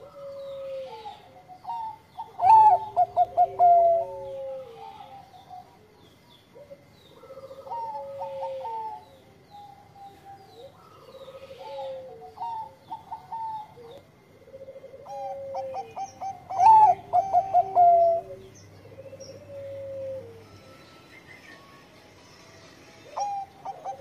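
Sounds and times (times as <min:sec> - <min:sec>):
dove cooing: 0:00.0 - 0:20.8, 0:23.0 - 0:24.0.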